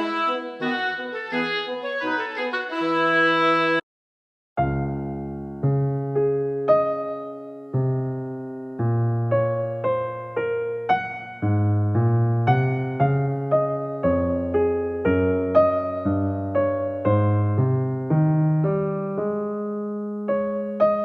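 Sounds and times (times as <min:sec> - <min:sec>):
slow gentle piano melody: 0:00.0 - 0:03.8, 0:04.6 - 0:21.0.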